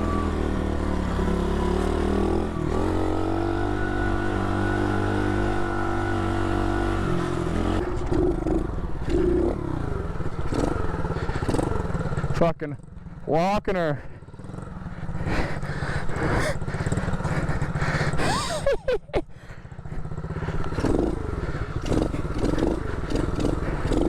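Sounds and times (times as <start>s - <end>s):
motorbike engine running: 0.0s - 24.0s.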